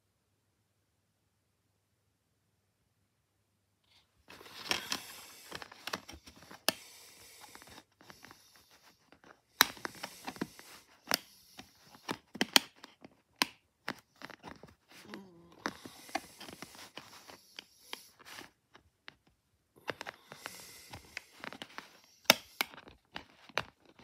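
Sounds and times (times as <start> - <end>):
plastic case rustling: 4.2 - 24.0.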